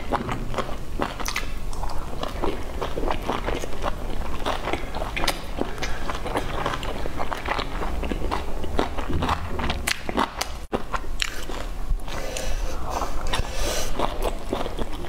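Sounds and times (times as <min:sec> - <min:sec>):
mouth chewing wet smacking: 0:00.0 - 0:12.1, 0:13.2 - 0:15.0.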